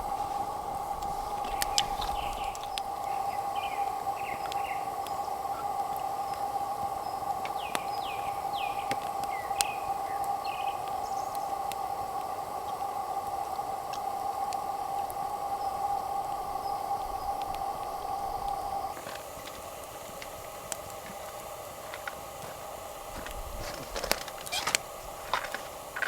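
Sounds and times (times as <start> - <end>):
birds chirping: 0.0 - 26.0
steady high hum: 0.0 - 26.0.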